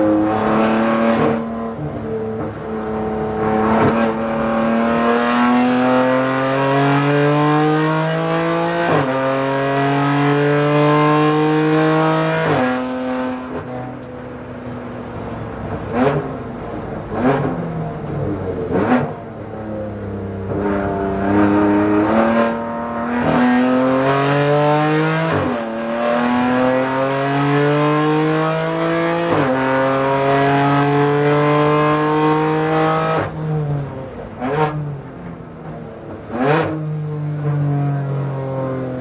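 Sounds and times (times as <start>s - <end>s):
race car engine revving: 0.0s - 14.1s, 15.5s - 34.9s.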